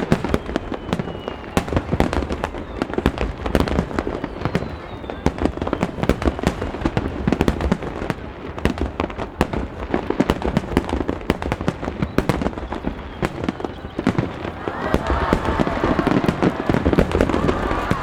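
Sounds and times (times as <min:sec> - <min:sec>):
fireworks booms and crackles: 0:00.0 - 0:18.0.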